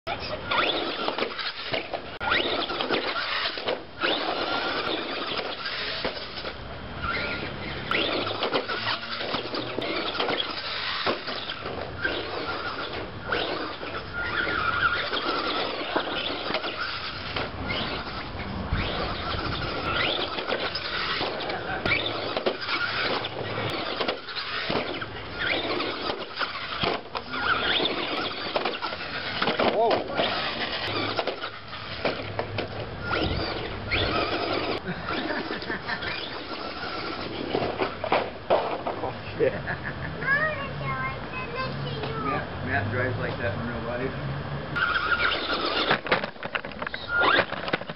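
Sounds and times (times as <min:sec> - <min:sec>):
toy truck motor whining: 0:00.1 - 0:39.4, 0:40.2 - 0:42.5, 0:44.8 - 0:47.9
wheels scrabbling on grass and dirt: 0:00.1 - 0:39.5, 0:44.8 - 0:47.9.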